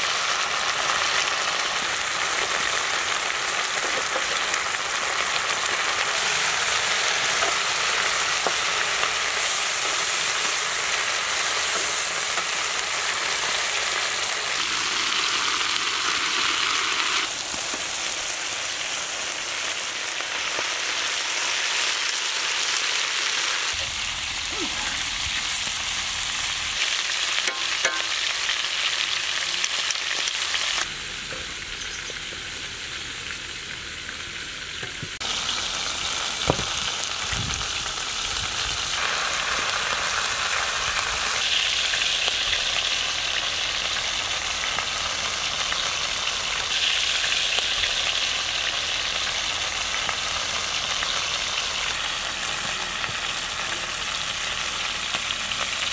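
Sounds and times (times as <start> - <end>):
chicken sizzling in oil: 0.0 - 55.9.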